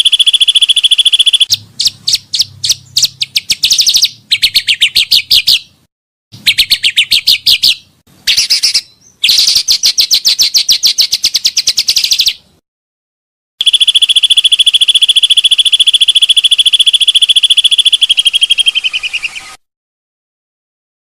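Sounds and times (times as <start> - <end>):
bird trilling chirps: 0.0 - 5.8, 6.4 - 12.4, 13.6 - 19.6.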